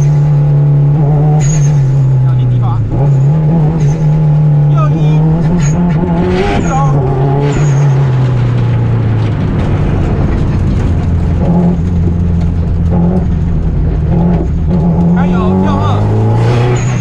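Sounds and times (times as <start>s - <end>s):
car engine revving: 0.0s - 17.0s
road and tyre noise: 0.0s - 17.0s.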